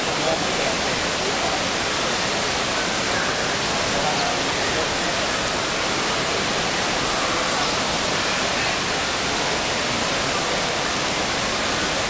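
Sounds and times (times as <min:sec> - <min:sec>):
faint voices: 0:00.0 - 0:12.0
indoor pool ambient hiss: 0:00.0 - 0:12.0.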